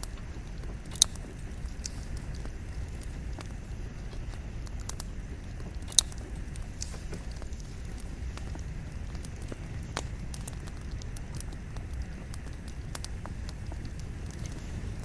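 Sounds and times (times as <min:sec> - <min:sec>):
campfire burning with crackles: 0:00.0 - 0:15.0.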